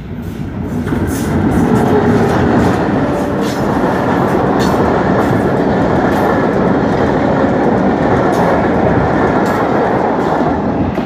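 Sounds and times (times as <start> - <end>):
train passing at speed: 0.0 - 11.0
wheels clicking over rail joints: 0.8 - 11.0.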